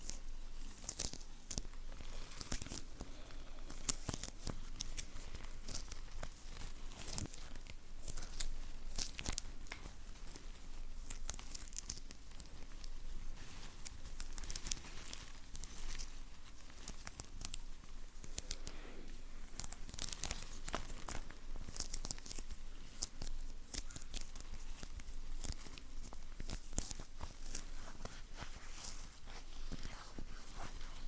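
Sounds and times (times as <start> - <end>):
sticky surface crackling and tearing: 0.0 - 18.8, 19.4 - 31.0.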